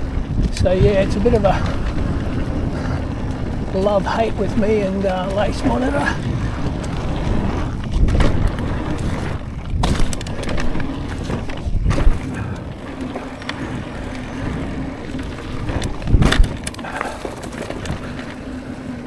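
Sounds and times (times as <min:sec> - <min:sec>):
bike landing thumps: 0:00.0 - 0:18.3
bike tyre rumble: 0:00.0 - 0:19.0
wind on microphone: 0:00.0 - 0:19.0.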